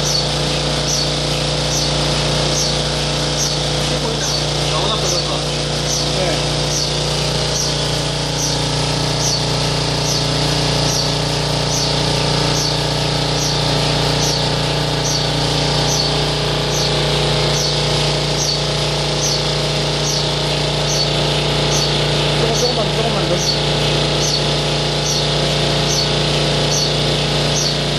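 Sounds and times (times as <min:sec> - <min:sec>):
machine humming: 0:00.0 - 0:27.9.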